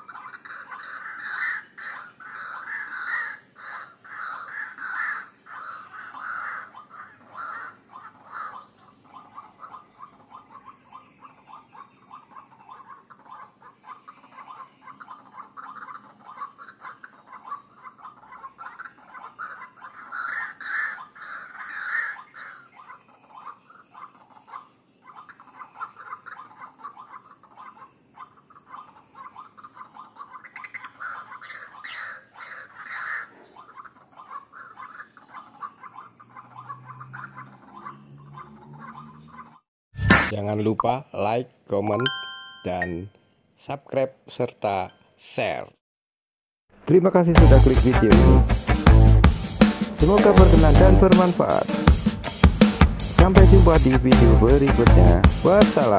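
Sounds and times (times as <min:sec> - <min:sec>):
waterhen calling: 0:00.0 - 0:39.6, 0:49.6 - 0:55.9.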